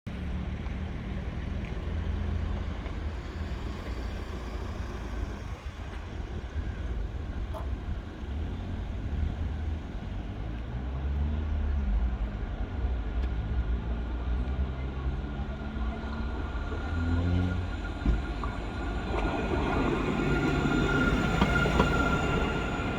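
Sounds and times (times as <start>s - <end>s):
low rumble of vehicles: 0.1s - 22.9s.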